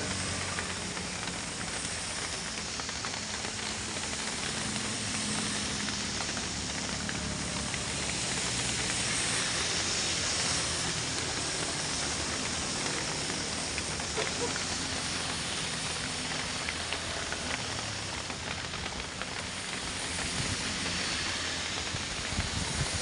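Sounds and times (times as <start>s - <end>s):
heavy rain on a truck: 0.0s - 23.0s
truck engine running: 0.0s - 23.0s.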